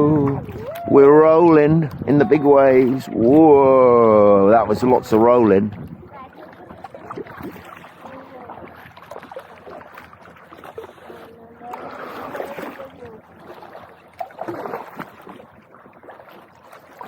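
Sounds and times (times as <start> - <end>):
water sloshing against a kayak: 0.0 - 17.0.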